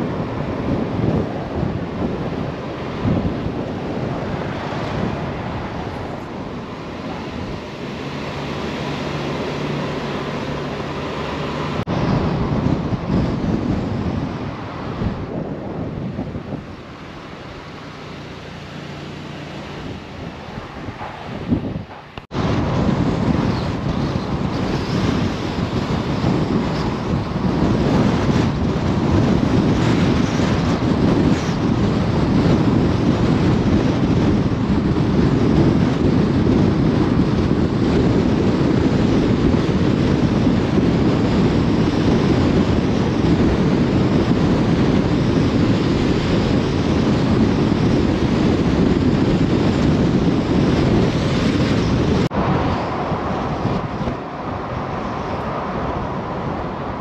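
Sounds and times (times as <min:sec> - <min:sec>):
steady low rumble: 0:00.0 - 0:57.0
wind buffeting microphone: 0:00.0 - 0:57.0.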